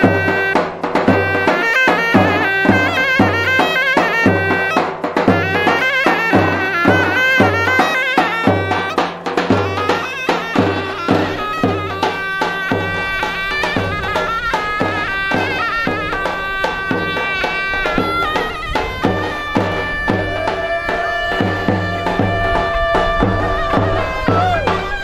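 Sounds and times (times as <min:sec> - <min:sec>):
drum beat: 0:00.0 - 0:25.0
shrill reed wind instrument: 0:00.0 - 0:25.0.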